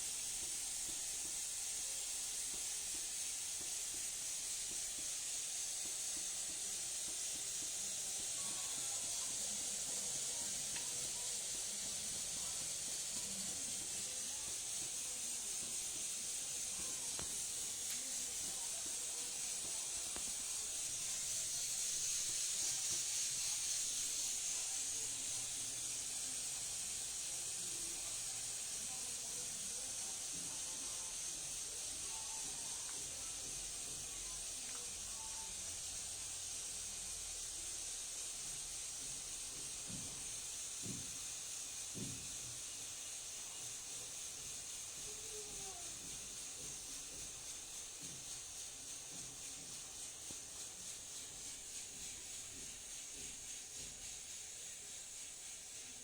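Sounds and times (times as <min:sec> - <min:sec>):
bottle warmer steam hissing: 0:00.0 - 0:56.0.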